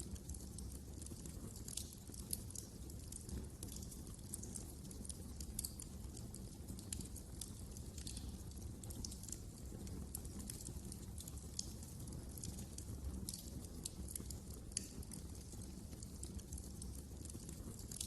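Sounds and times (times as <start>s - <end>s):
low rumble of flames: 0.0s - 18.0s
wood fire snapping and popping: 0.0s - 18.0s.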